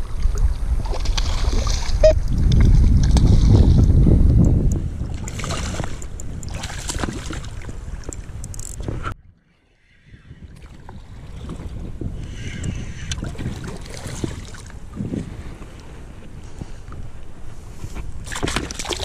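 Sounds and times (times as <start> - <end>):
water sloshing and splashing: 0.0 - 3.9, 4.9 - 9.6, 10.5 - 19.0
wind buffeting microphone: 0.0 - 9.3, 9.9 - 19.0.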